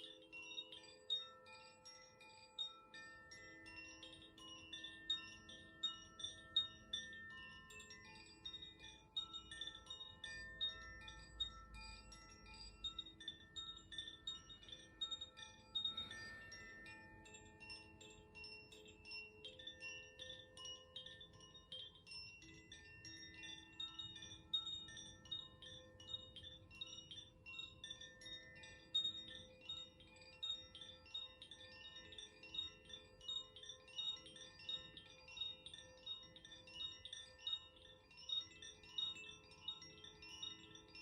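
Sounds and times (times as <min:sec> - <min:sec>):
wind chime tinkling: 0:00.0 - 0:41.0.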